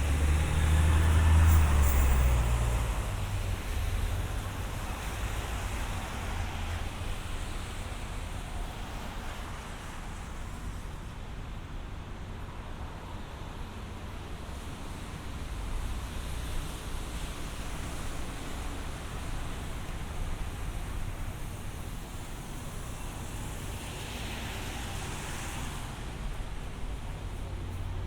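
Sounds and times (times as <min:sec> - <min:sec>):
tyres hissing on wet pavement: 0:00.0 - 0:11.0, 0:14.5 - 0:28.0
low rumble of engines: 0:00.0 - 0:28.0.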